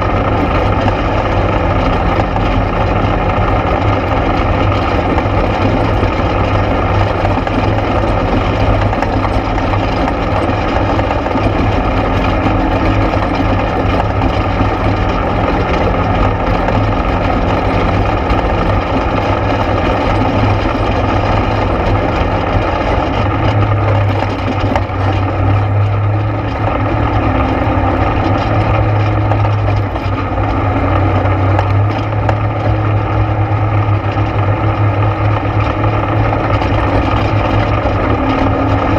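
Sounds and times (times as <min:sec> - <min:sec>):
atv engine drone: 0:00.0 - 0:38.9.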